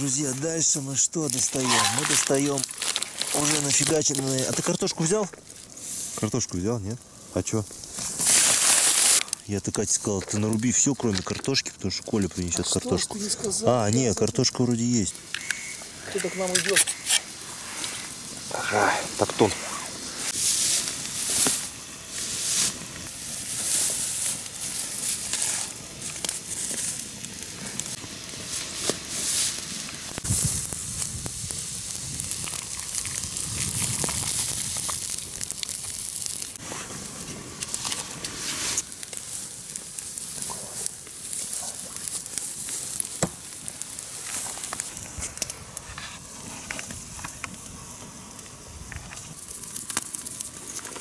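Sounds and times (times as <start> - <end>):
campfire crackling and popping: 0.0 - 51.0
pork fat sizzling: 0.0 - 51.0.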